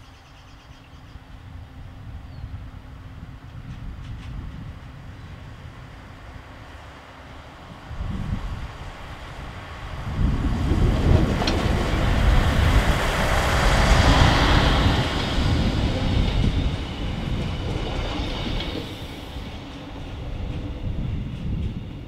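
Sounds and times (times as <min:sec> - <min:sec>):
train running past on rails: 0:00.0 - 0:22.0.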